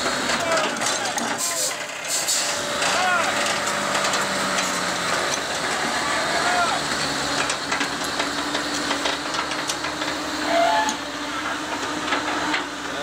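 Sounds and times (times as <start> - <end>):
diesel engines humming: 0.0 - 13.0.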